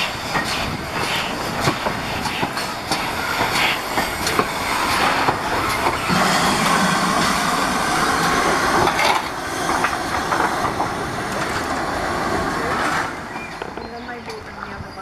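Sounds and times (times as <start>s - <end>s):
steam hissing: 0.0s - 13.8s
locomotive wheels clanking: 0.0s - 15.0s.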